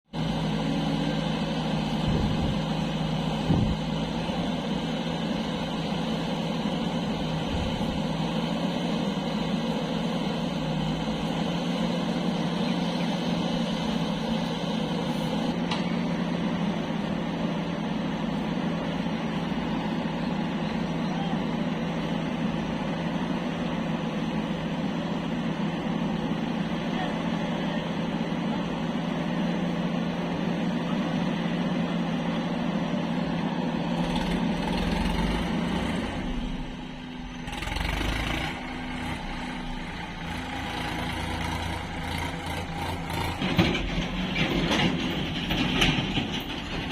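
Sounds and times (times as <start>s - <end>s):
diesel engine running steadily: 0.0s - 46.9s.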